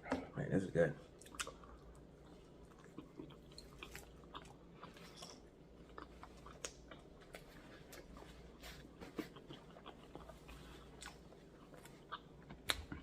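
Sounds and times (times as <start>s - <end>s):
faint chewing: 1.0s - 13.0s.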